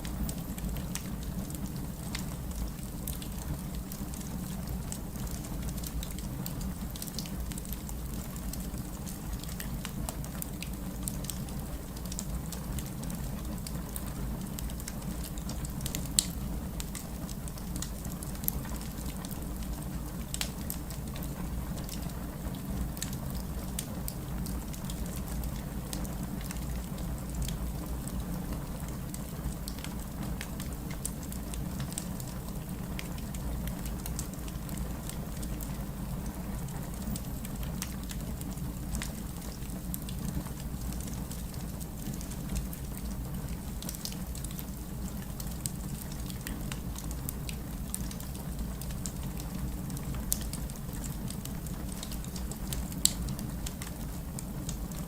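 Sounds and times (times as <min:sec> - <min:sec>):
fire crackling and popping: 0:00.0 - 0:55.0
low rumble of burning logs: 0:00.0 - 0:55.0.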